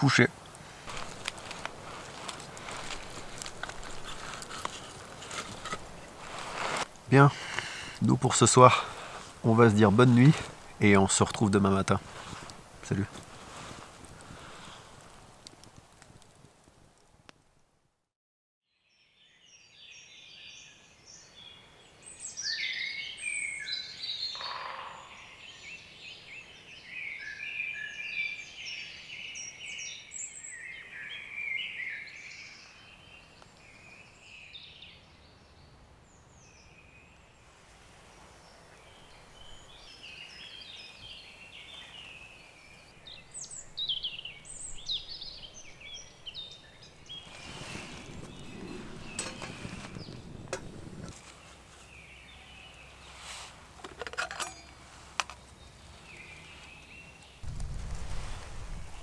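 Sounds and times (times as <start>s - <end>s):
songbirds singing and chirping: 0.0s - 15.3s, 19.2s - 37.2s, 38.0s - 57.9s.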